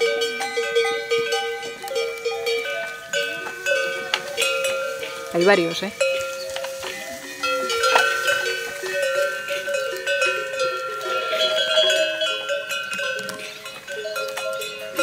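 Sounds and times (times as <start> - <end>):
goat bells clanking: 0.0 - 15.0.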